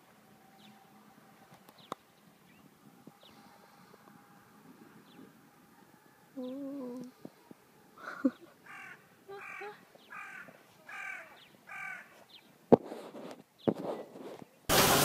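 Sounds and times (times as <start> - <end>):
bird calling: 0.0 - 12.6.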